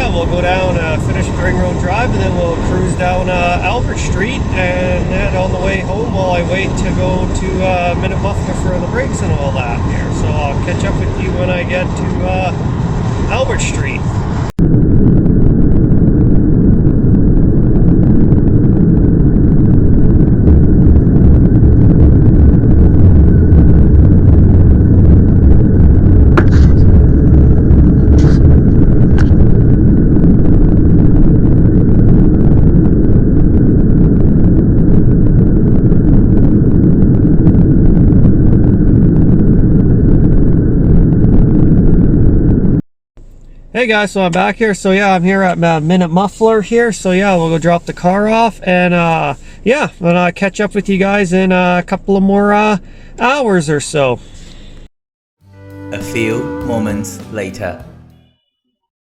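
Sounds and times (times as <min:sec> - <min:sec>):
car road and wind rumble: 0:00.0 - 0:54.8.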